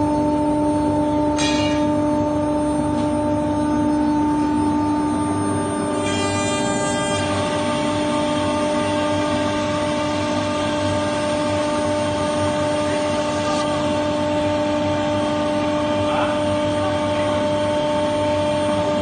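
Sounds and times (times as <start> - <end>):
electric spindle whining: 0.0 - 19.0.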